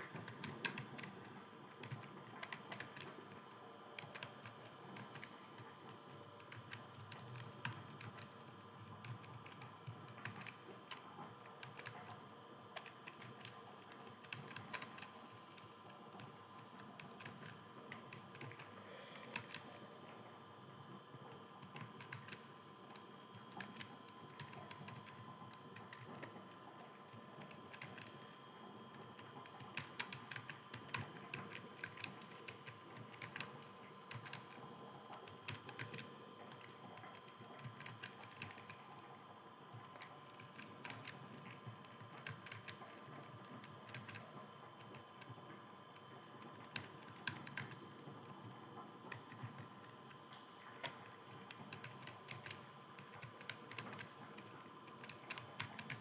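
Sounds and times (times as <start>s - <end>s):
computer keyboard typing: 0.0s - 19.8s, 21.2s - 56.0s
faint electrical hum: 0.0s - 56.0s.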